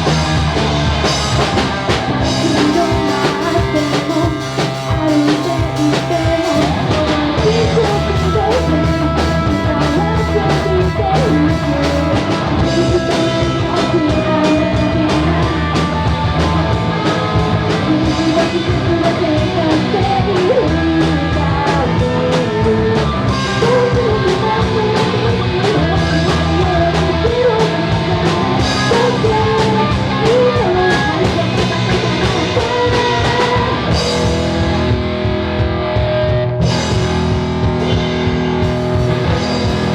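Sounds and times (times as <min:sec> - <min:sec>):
rock song with singing: 0:00.0 - 0:39.9.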